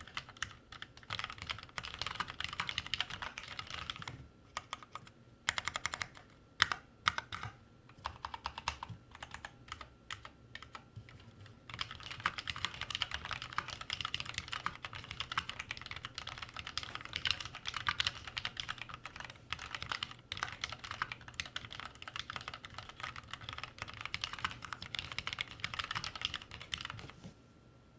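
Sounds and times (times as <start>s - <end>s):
mechanical keyboard typing: 0.0s - 27.2s.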